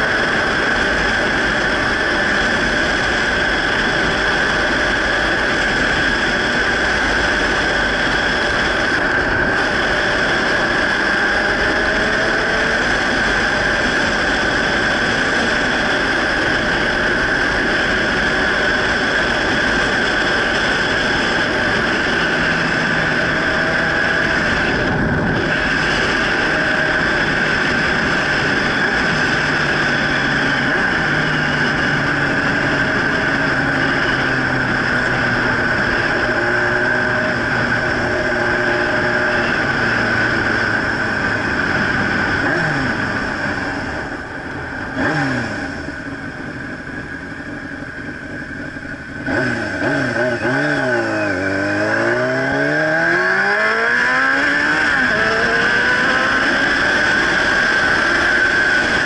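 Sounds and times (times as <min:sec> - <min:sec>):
faint motorcycle engine: 0:00.0 - 0:59.0
wind and road noise: 0:00.0 - 0:59.0.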